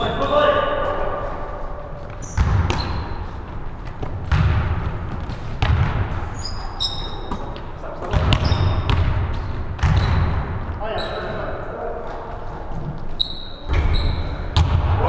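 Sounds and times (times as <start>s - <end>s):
sneakers squeaking: 0.0s - 14.8s.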